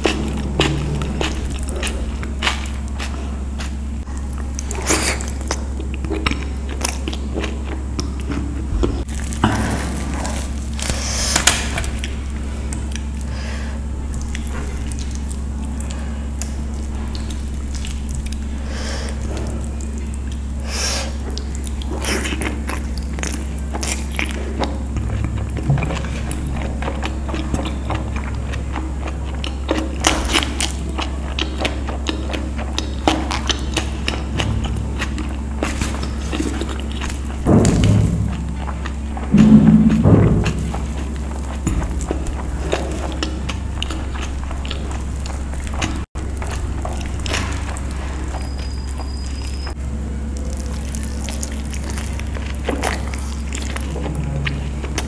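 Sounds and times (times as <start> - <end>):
person chewing and lip smacking: 0.0 - 55.0
steady low hum: 0.0 - 55.0.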